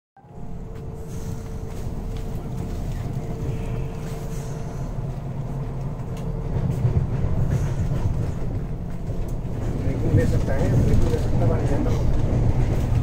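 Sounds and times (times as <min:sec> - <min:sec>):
train rumble inside coach: 0:00.2 - 0:13.0.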